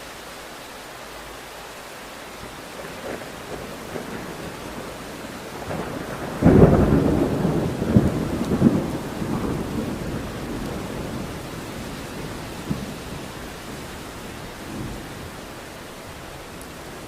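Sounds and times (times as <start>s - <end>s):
steady rain: 0.0s - 17.0s
thunder cracking and rumbling: 2.7s - 17.0s.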